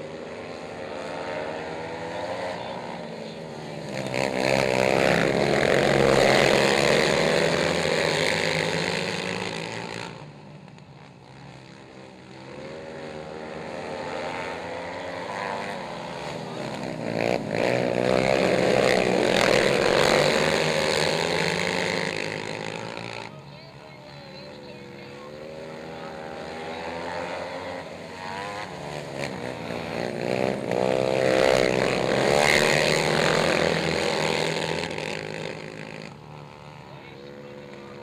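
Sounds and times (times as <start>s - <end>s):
racing quad engines revving: 0.0s - 38.0s.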